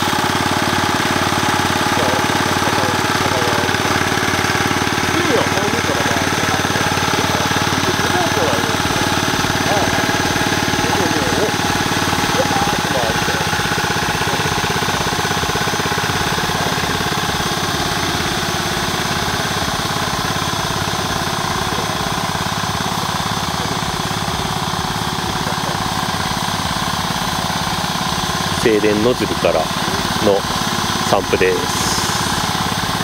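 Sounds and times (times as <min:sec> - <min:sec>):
crop sprayer engine running: 0:00.0 - 0:33.0.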